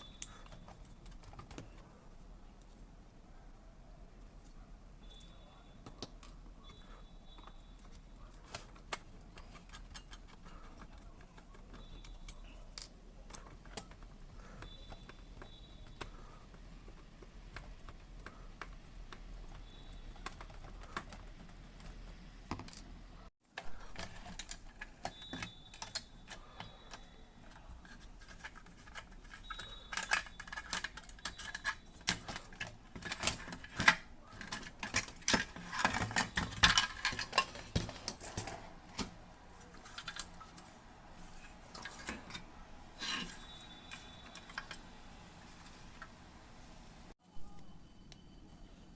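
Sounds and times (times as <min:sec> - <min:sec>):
small parts and tools clattering: 0:05.1 - 0:22.9, 0:23.5 - 0:46.2.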